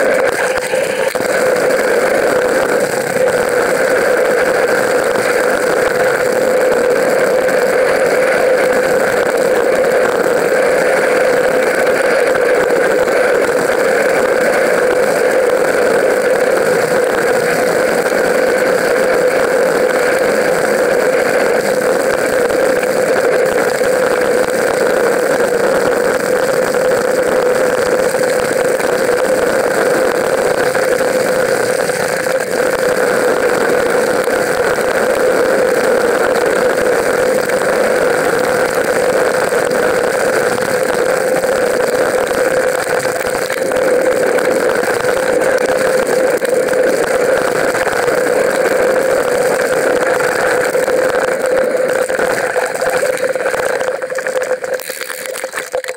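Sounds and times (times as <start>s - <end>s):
bike tyre rumble on dirt: 0.0s - 55.9s
wind on camera: 0.0s - 55.9s.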